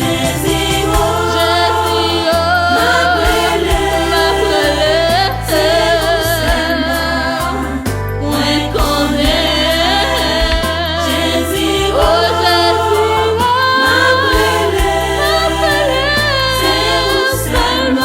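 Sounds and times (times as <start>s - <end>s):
choir singing gospel: 0.0s - 18.0s
instrumental backing with bass line: 0.0s - 18.0s.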